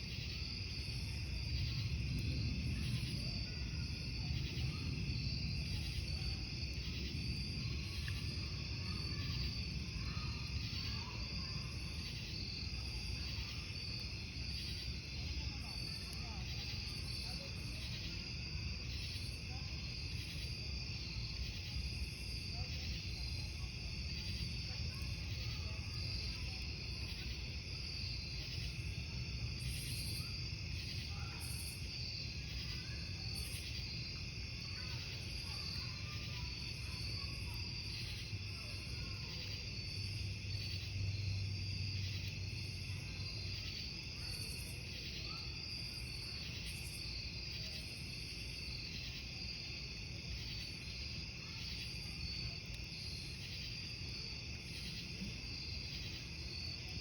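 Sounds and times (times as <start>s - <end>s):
campfire rumble: 0.0s - 57.0s
crickets chirping: 0.0s - 57.0s.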